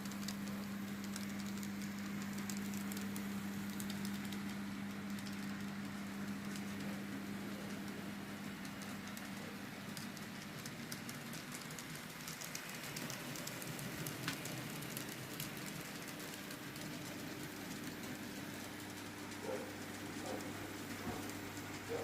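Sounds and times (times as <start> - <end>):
wheels clicking on rails: 0.0 - 22.0.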